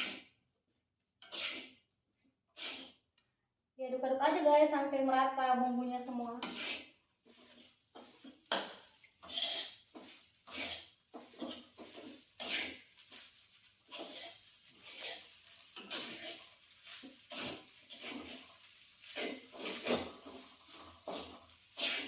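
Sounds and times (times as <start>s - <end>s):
spatula scraping a pan: 0.0s - 0.4s, 1.2s - 3.0s, 5.6s - 22.0s.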